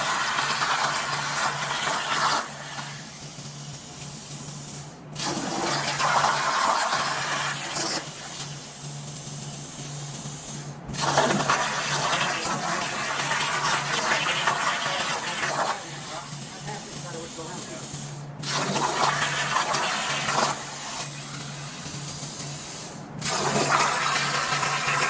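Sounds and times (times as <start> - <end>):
plasma torch hissing: 0.0 - 25.0.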